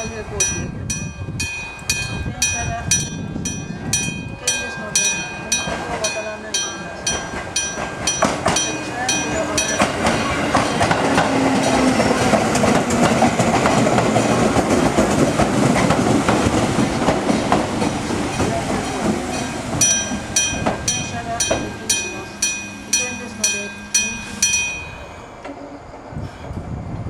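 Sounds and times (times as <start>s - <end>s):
crossing bell ringing: 0.0s - 15.2s, 16.3s - 25.4s
train rumbling past: 0.0s - 27.0s.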